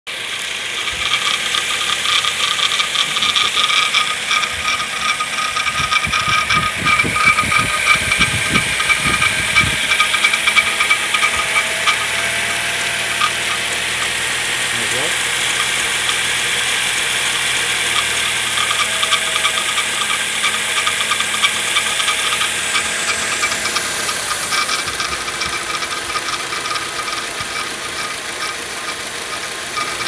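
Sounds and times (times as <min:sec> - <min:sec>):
car engine running: 0:00.1 - 0:30.0
fast metallic engine rattle: 0:00.1 - 0:30.0.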